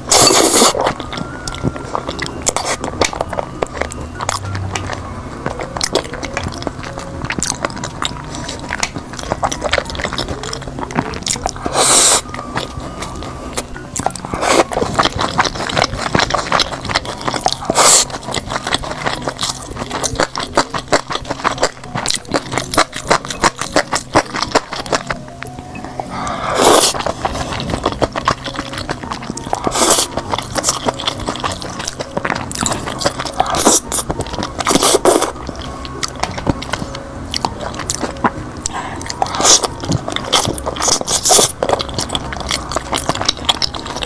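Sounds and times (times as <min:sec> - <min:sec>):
chewing and biting food: 0:00.0 - 0:44.0.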